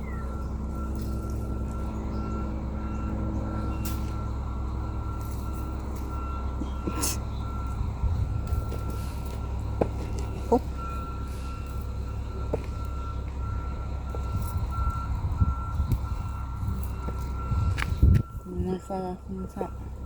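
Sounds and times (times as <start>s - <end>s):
reversing alarm beeping: 0.0s - 20.0s
vehicle engine running: 0.0s - 20.0s.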